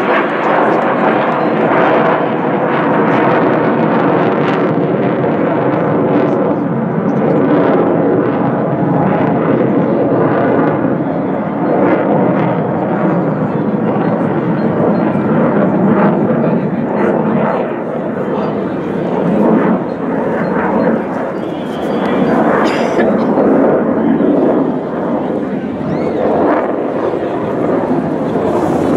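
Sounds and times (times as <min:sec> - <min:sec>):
fighter jet flying overhead: 0:00.0 - 0:28.9.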